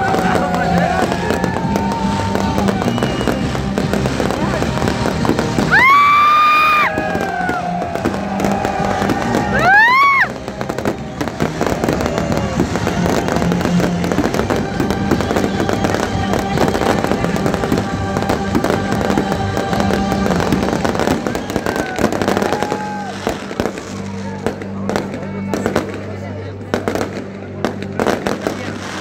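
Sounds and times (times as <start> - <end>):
whistling fireworks: 0.0 - 26.2
fireworks crackling and popping: 0.0 - 29.0.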